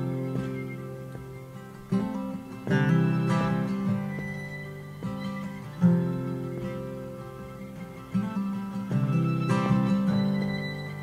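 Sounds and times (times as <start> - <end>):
acoustic guitar strumming: 0.0 - 11.0
bowed fiddle: 0.0 - 11.0.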